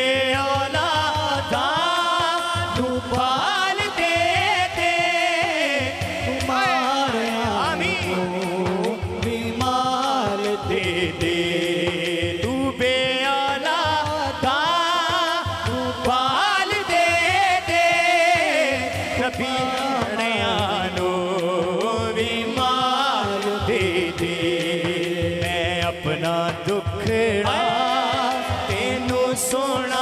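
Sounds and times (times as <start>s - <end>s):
hand drum rhythm: 0.0s - 30.0s
man singing devotional song: 0.0s - 30.0s.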